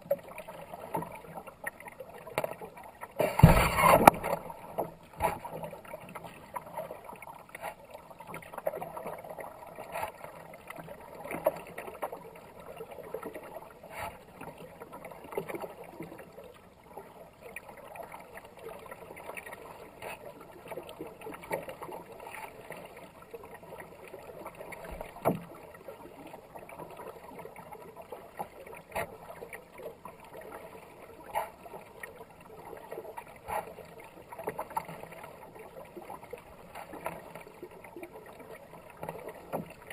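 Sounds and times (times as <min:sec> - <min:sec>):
fast river water: 0:00.0 - 0:39.9
kayak paddle splashing: 0:00.0 - 0:39.9.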